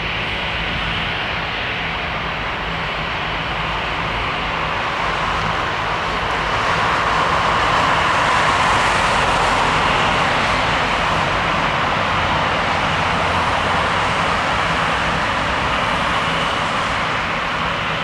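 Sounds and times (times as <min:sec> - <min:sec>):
jet engines roaring past: 0:00.0 - 0:18.0.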